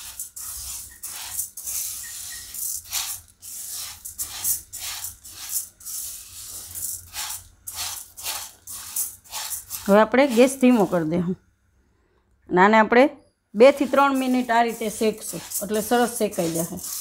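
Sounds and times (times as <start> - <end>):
dry lentils rattling in a pan: 0.0 - 11.1, 13.7 - 17.0.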